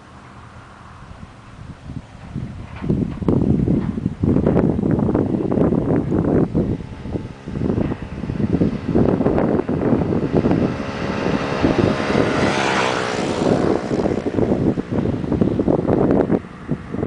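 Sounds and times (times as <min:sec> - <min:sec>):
wind buffeting microphone: 0:00.0 - 0:17.0
motorcycle engine running: 0:00.6 - 0:17.0.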